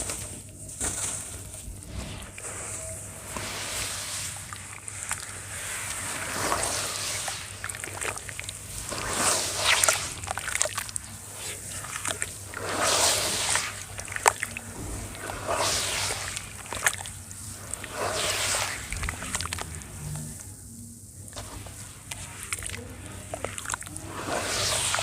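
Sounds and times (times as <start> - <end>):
wet sand crumbling in water: 0.0 - 20.4, 21.2 - 25.0.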